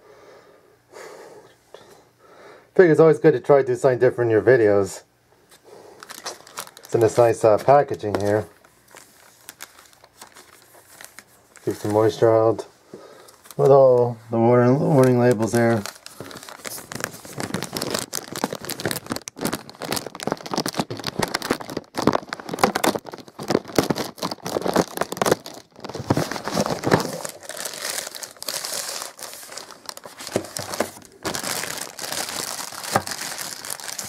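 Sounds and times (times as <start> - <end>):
plastic bag crinkling: 5.9 - 12.6, 13.2 - 34.0.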